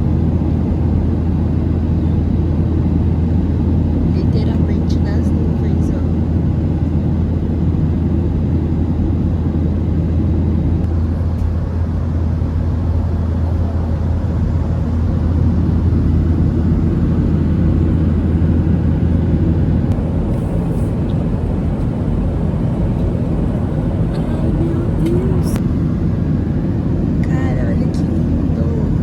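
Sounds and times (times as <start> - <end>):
airliner engines droning in cabin: 0.0 - 29.0.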